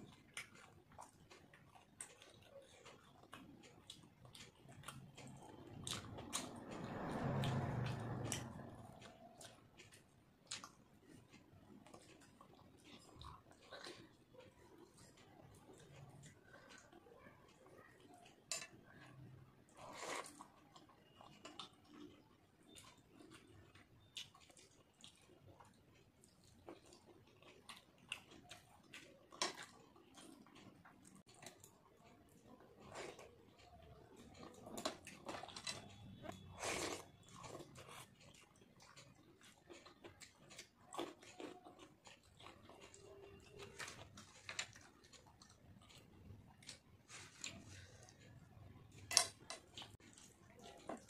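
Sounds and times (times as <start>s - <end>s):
chewing and wet squishing: 0.0s - 51.0s.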